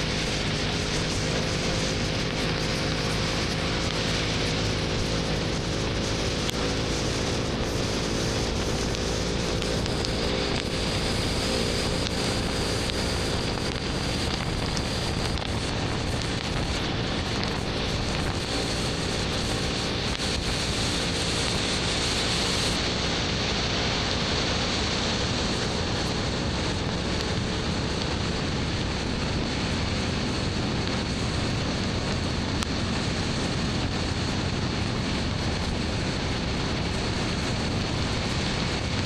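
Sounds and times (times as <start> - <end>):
motorcycle engine cruising: 0.0 - 39.0
wind rushing over microphone: 0.0 - 39.0.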